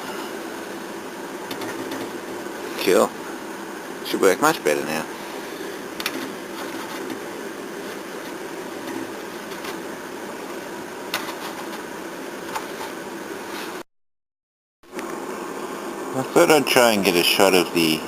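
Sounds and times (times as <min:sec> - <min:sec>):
steady mechanical hum: 0:00.0 - 0:13.8, 0:14.9 - 0:18.0.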